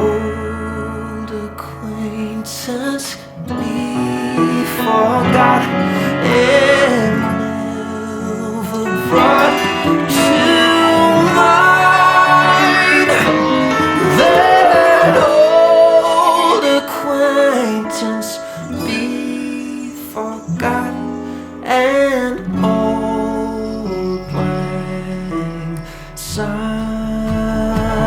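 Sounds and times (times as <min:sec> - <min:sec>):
person singing: 0:00.0 - 0:28.0
soft pop song with guitar: 0:00.0 - 0:28.0.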